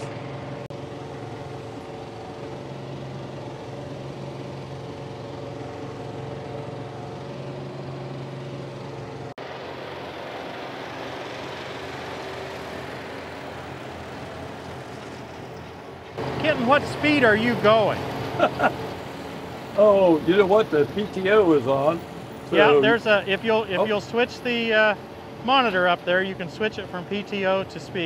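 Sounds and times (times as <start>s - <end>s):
mower cutting grass: 0.0s - 28.0s
tractor engine under load: 0.0s - 28.0s.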